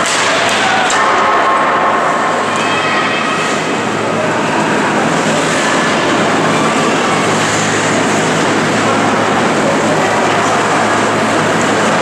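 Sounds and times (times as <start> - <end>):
ice rink crowd noise: 0.0 - 12.0
low hum: 1.0 - 12.0.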